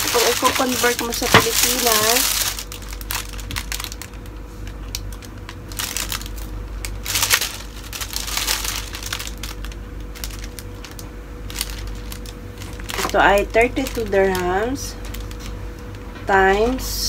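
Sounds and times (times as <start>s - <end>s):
plastic wrapping crinkling: 0.0s - 16.1s.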